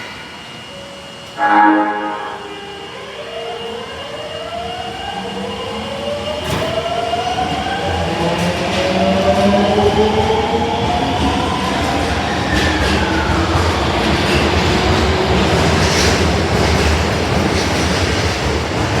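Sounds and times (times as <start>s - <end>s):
train wheels rumbling on rail: 2.4s - 19.0s.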